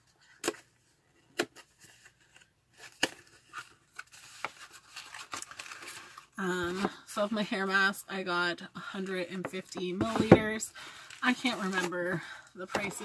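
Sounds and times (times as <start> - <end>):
packaging rustling and scraping: 0.0 - 7.1, 9.6 - 13.0.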